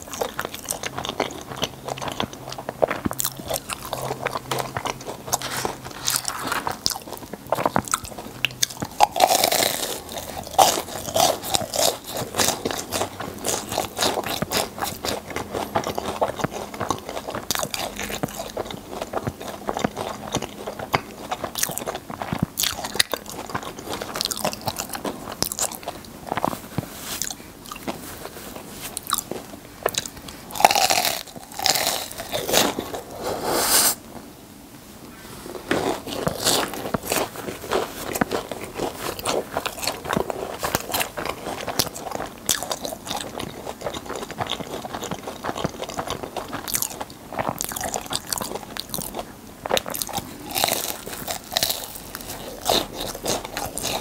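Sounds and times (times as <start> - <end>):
chewing and crunching: 0.0 - 33.2, 35.4 - 54.0.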